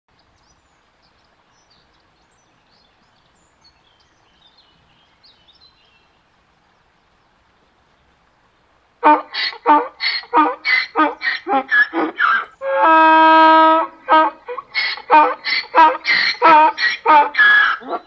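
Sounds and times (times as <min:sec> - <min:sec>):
faint background hiss: 0:00.1 - 0:18.0.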